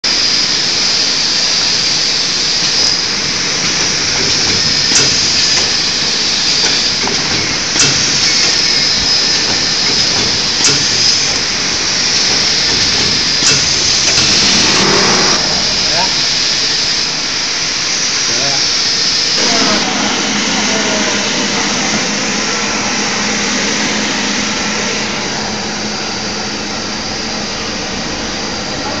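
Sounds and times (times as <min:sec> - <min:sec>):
wrapping machine hissing: 0:00.1 - 0:26.6.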